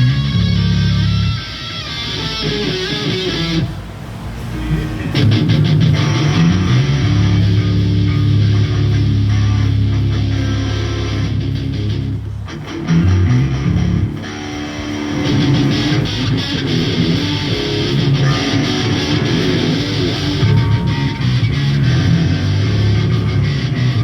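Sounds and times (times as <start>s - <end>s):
bass guitar: 0.0s - 24.0s
electric guitar: 0.0s - 24.0s.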